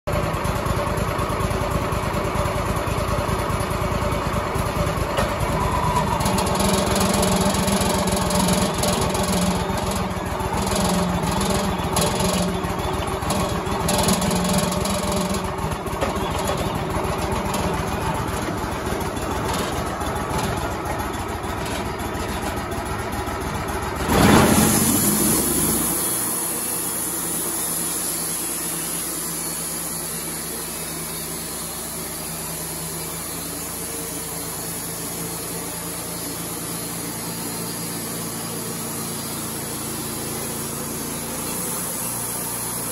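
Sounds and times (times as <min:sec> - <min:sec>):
sawmill engine rumbling: 0:00.1 - 0:42.9.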